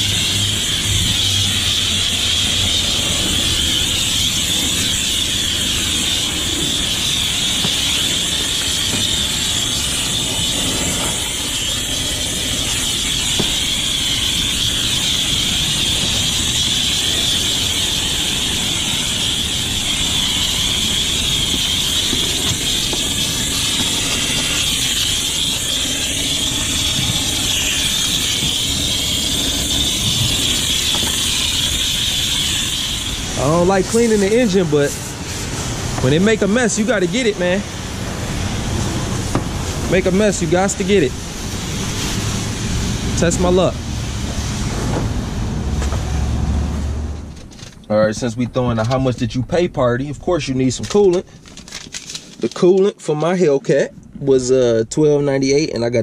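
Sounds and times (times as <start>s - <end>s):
high-pressure water spraying: 0.0s - 47.3s.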